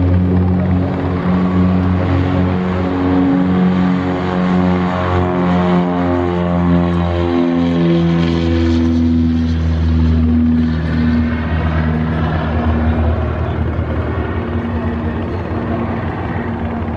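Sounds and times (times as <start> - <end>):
propeller aircraft engines droning: 0.0 - 16.9.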